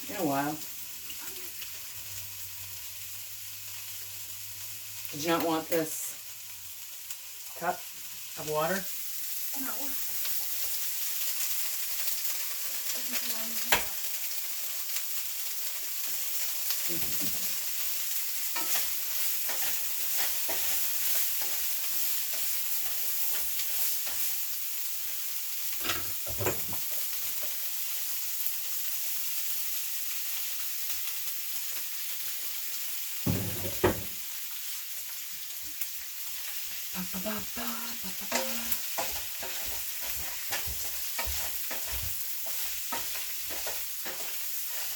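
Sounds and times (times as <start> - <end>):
stir fry sizzling in a pan: 0.0 - 44.9.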